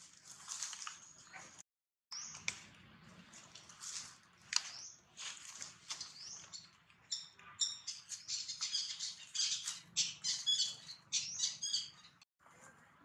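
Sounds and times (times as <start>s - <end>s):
birds chirping: 0.9s - 3.5s, 4.3s - 12.2s.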